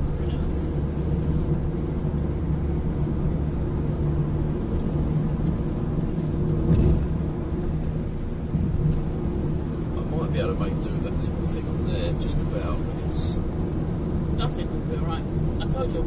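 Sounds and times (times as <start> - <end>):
car road noise: 0.0 - 16.0.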